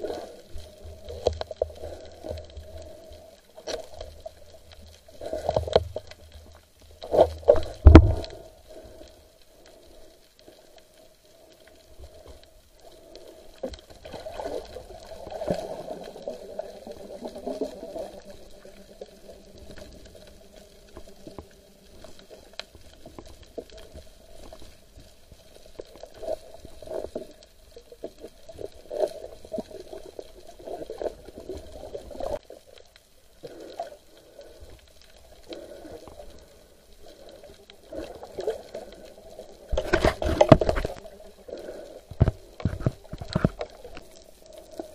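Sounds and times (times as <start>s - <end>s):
faint steady hum: 0.0s - 44.9s
underwater bubbling and gurgling: 0.0s - 44.9s.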